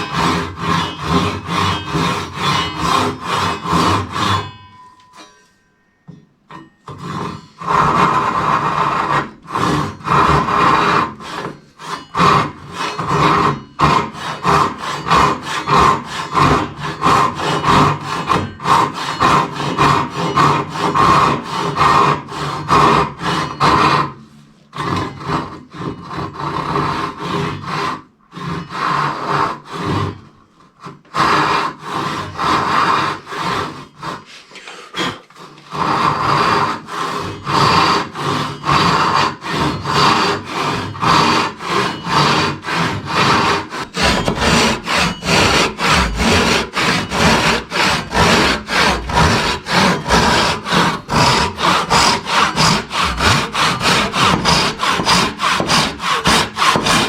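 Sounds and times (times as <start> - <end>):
hand saw cutting wood: 0.0 - 4.8, 6.5 - 57.0.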